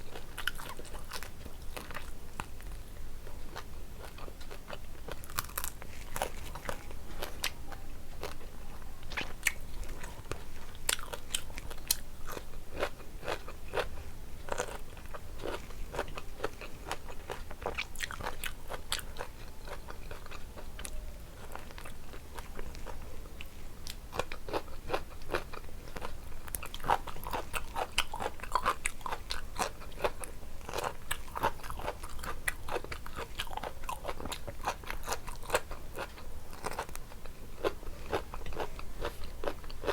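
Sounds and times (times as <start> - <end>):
chewing with crisp crunches: 0.0 - 39.9.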